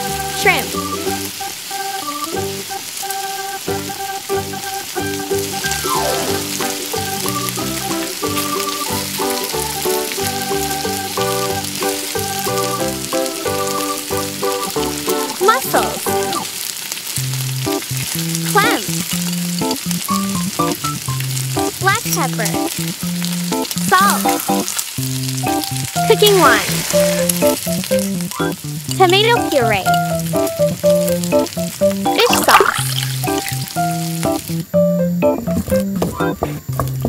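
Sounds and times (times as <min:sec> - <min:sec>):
plucky background music: 0:00.0 - 0:01.4, 0:03.7 - 0:16.5, 0:17.4 - 0:36.7
seafood sizzling in oil: 0:00.0 - 0:37.0.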